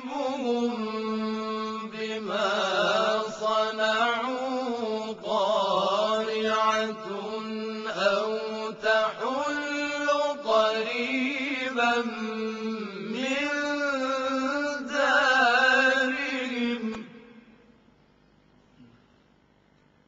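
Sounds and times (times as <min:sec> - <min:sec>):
men chanting in chorus: 0:00.0 - 0:17.3.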